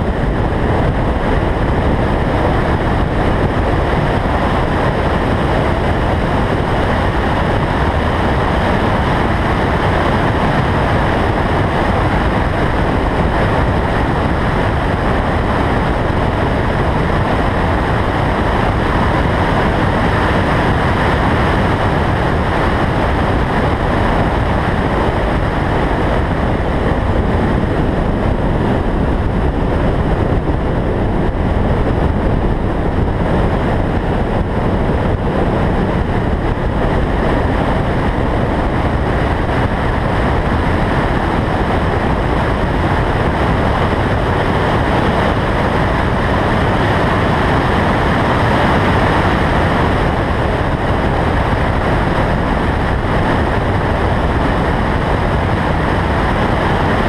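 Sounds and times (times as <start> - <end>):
road and vehicle noise: 0.0 - 57.0
wind rushing over microphone: 0.0 - 57.0.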